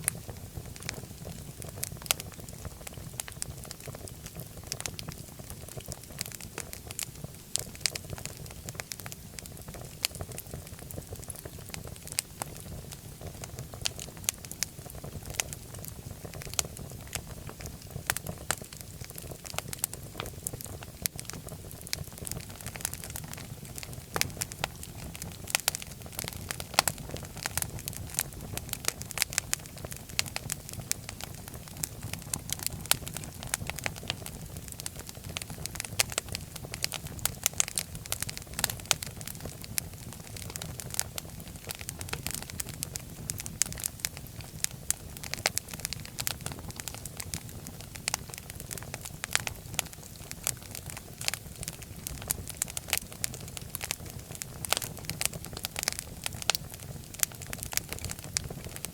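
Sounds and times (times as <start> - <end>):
fire pops and snaps: 0.0 - 58.9
low rumble of flames: 0.0 - 58.9.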